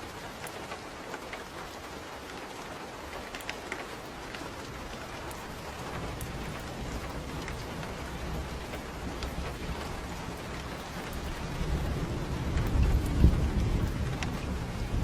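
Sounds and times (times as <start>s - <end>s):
rain hissing: 0.0s - 15.0s
sharp raindrop ticks: 0.0s - 15.0s.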